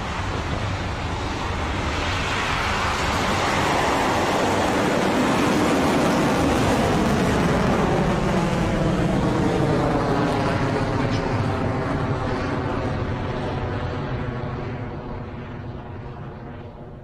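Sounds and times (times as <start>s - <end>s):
rocket engines rushing: 0.0s - 16.2s.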